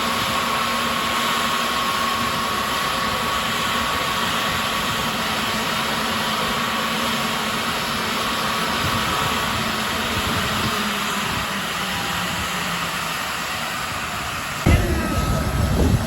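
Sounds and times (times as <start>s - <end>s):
jet engines hissing and whining: 0.0s - 16.0s.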